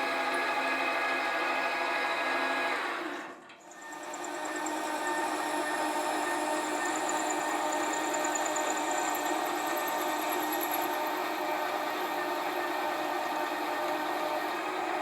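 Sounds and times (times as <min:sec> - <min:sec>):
metal lathe whining: 0:02.7 - 0:15.0.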